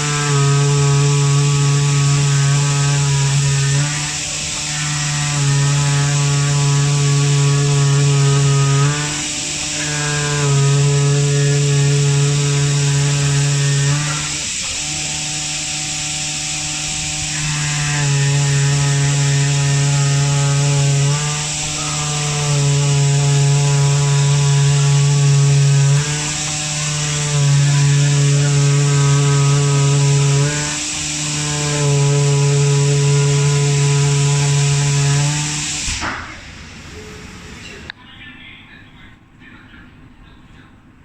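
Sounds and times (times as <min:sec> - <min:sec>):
oscillating knife cutter humming: 0:00.0 - 0:37.9.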